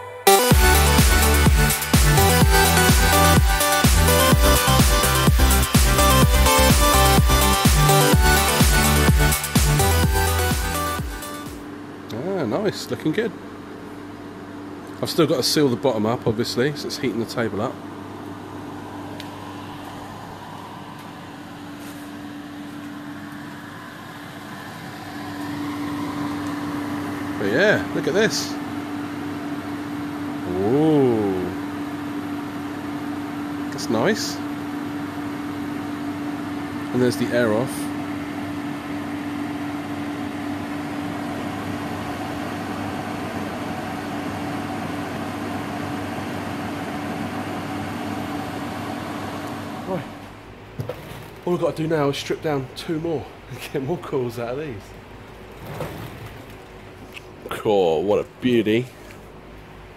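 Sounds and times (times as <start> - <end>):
air conditioner hum: 0.0 - 59.9.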